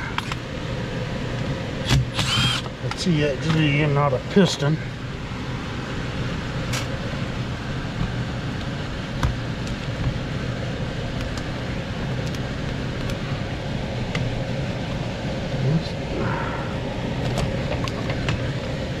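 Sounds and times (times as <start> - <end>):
air handler blower running: 0.0 - 19.0.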